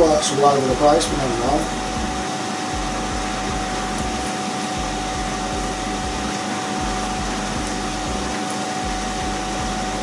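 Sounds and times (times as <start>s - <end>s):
machine whooshing and humming: 0.0s - 10.0s.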